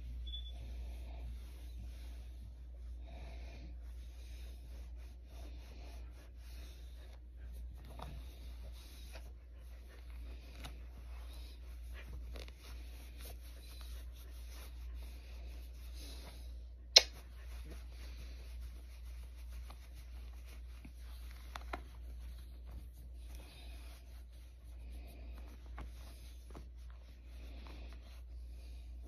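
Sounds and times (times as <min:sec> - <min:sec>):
hands rubbing on soft blanket: 0:00.0 - 0:29.0.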